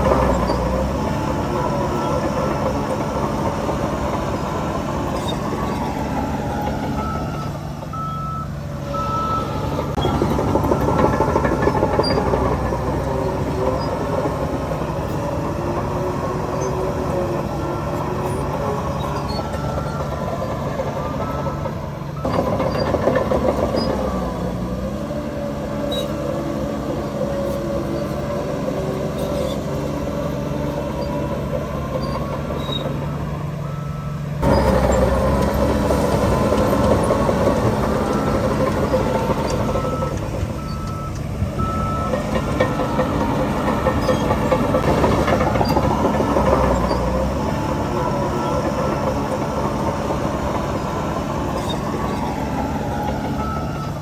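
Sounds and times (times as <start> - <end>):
diesel earthmoving machinery revving: 0.0 - 54.0.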